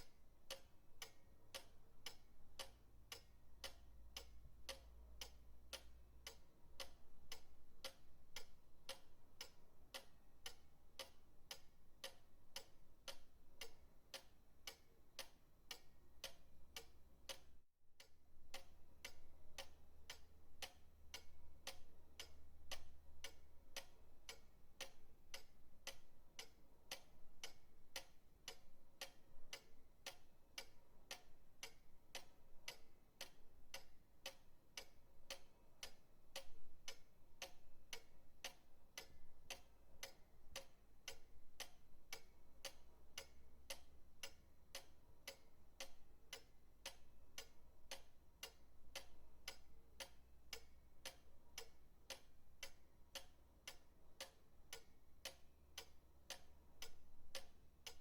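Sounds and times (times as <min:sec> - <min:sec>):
pendulum clock ticking: 0:00.0 - 0:58.0.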